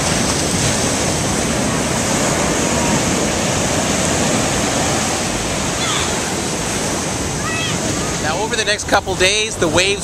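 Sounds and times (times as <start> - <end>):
surf breaking on beach: 0.0 - 10.0.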